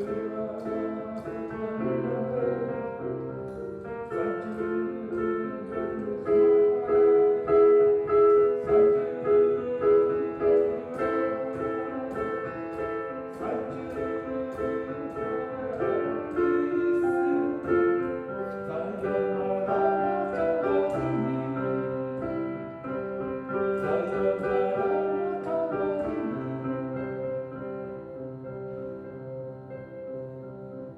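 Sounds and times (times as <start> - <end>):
piano melody over held chords: 0.0 - 30.9.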